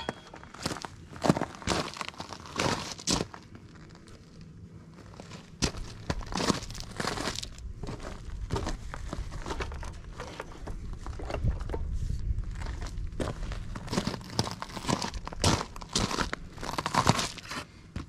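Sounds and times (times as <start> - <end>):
crunching on gravel: 0.0 - 18.0.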